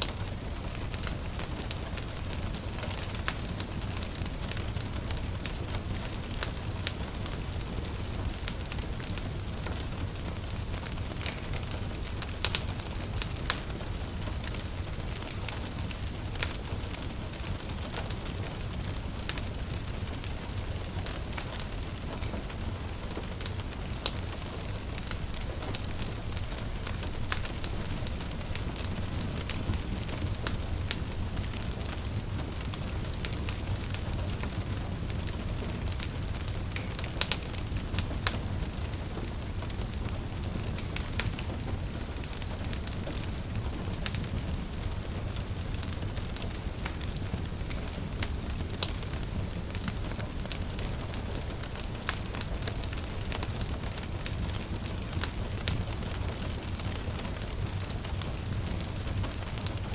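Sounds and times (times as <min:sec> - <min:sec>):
gentle rain: 0:00.0 - 0:59.9
wood fire crackling: 0:00.0 - 0:59.9.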